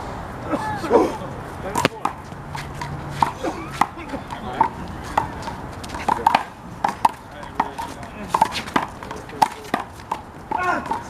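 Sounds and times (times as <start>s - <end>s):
handball hits on wall and ground: 1.7s - 11.0s
shoe squeaks: 1.8s - 11.0s.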